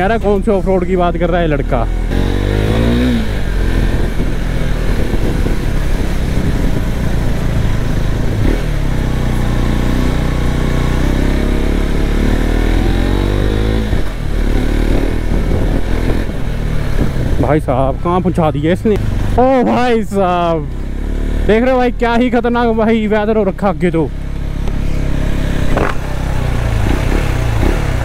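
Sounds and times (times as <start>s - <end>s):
motorcycle engine revving: 0.0s - 28.0s
wind and road noise: 0.0s - 28.0s.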